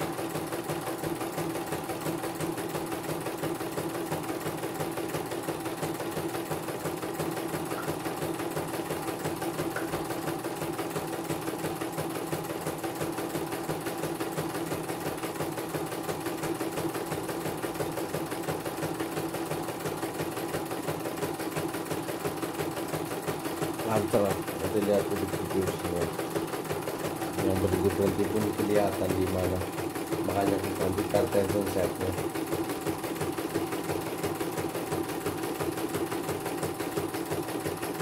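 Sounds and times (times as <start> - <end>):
embroidery machine stitching: 0.0 - 38.0.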